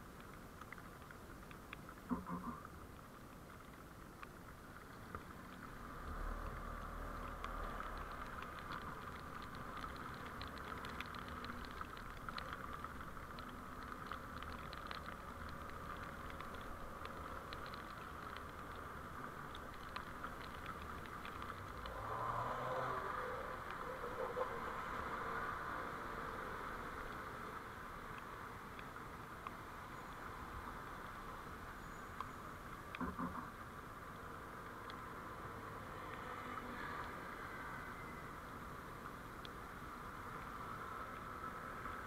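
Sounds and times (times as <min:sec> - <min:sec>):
small ticks: 0:00.0 - 0:35.1, 0:35.8 - 0:42.0
road and engine hum: 0:00.0 - 0:42.0.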